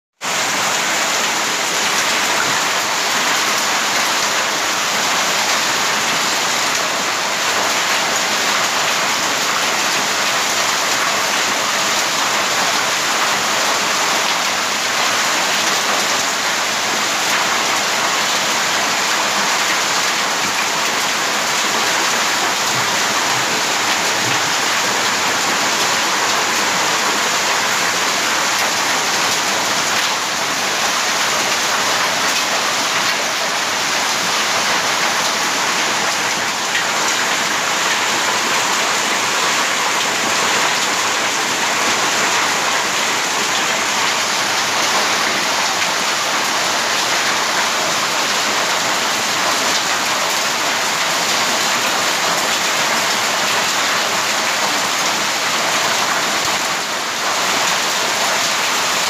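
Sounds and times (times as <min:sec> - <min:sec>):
heavy rain and hail on pavement: 0:00.2 - 0:59.0.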